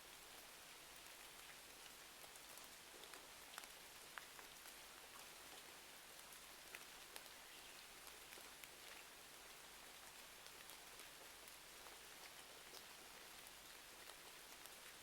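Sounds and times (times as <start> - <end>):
faint rain hiss: 0.0 - 15.0.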